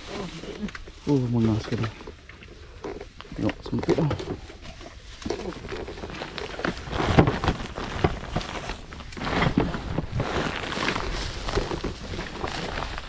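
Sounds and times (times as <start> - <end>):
footsteps in mud: 0.0 - 13.0
rustling vegetation: 0.0 - 13.0.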